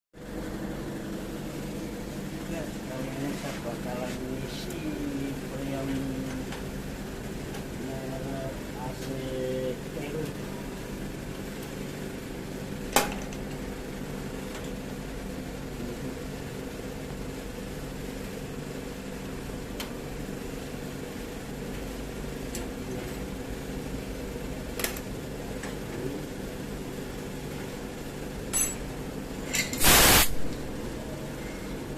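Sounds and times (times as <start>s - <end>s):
air conditioner humming: 0.2s - 31.9s.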